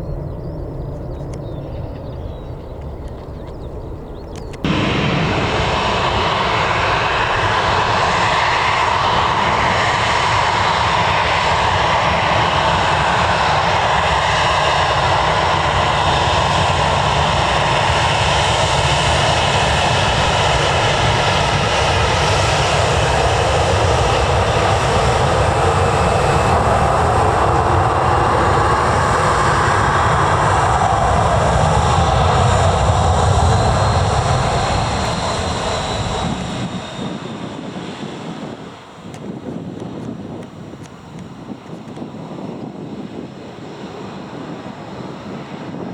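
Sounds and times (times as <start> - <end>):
airliner engines running: 0.0 - 45.9.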